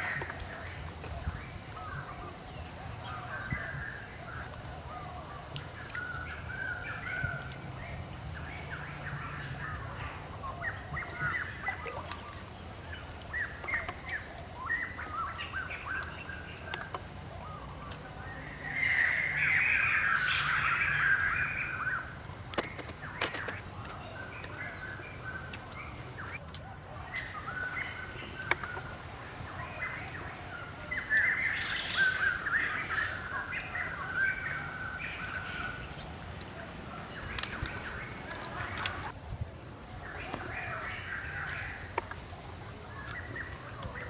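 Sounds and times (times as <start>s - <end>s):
birds chattering and cawing: 0.0s - 39.2s, 39.8s - 44.0s.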